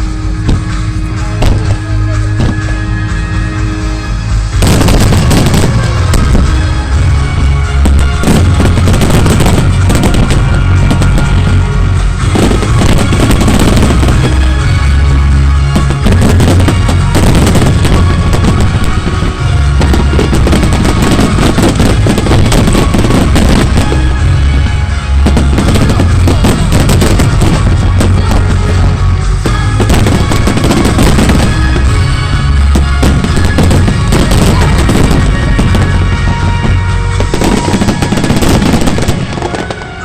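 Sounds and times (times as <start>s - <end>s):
fireworks cracking and booming: 0.0s - 40.0s
music: 0.0s - 40.0s.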